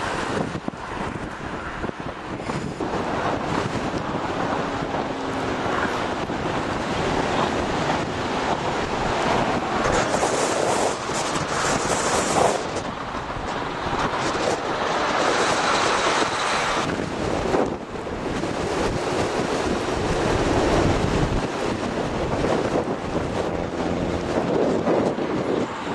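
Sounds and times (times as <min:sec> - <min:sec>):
strong wind buffeting microphone: 0:00.0 - 0:25.9.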